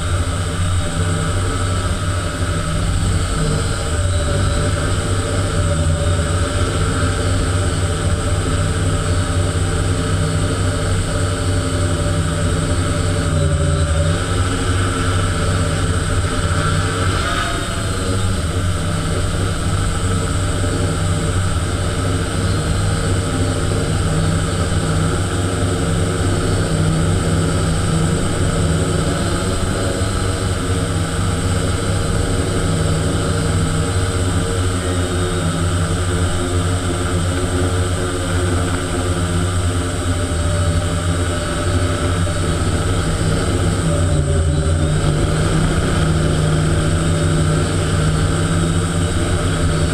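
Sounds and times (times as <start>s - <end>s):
small aircraft motors and propellers: 0.0s - 49.9s.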